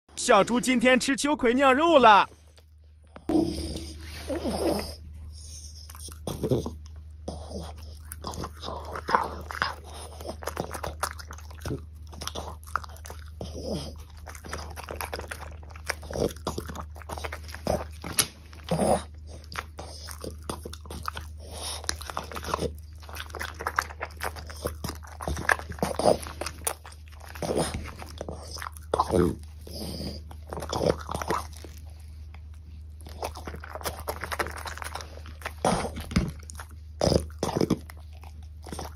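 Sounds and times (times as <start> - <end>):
faint low hum: 0.1 - 38.9
dog crunching and chewing: 2.4 - 38.9.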